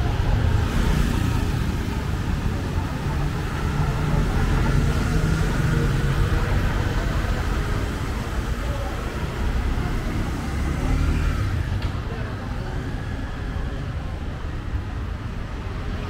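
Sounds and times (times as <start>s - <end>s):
passing vehicle engines rumbling: 0.0s - 16.0s.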